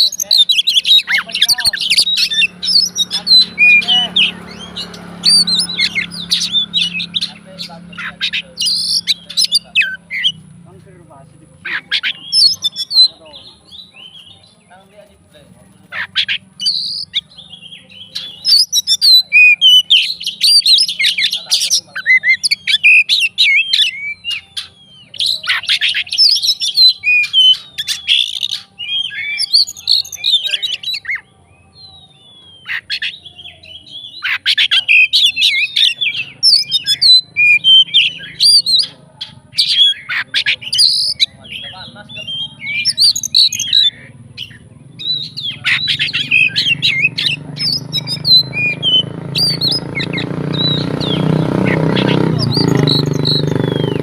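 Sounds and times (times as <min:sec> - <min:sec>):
bird singing whistles and chatter: 0:00.0 - 0:10.7, 0:11.5 - 0:15.1, 0:15.8 - 0:54.0.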